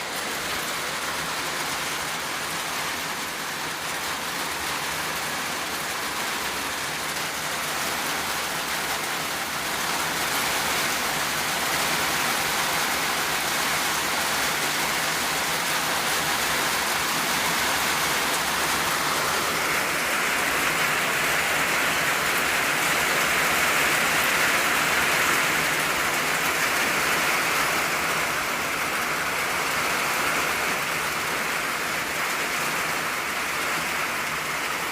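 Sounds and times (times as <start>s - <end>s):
rain on a tin roof: 0.0s - 34.9s.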